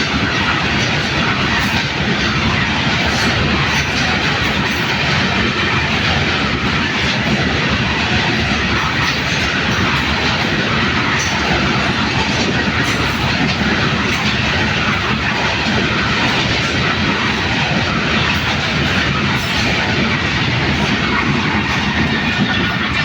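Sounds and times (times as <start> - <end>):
freight train wheels rumbling and rattling: 0.0 - 23.0.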